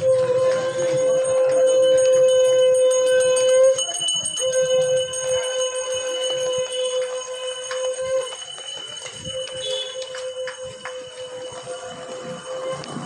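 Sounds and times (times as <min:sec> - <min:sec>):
bicycle bell ringing: 0:00.8 - 0:13.0.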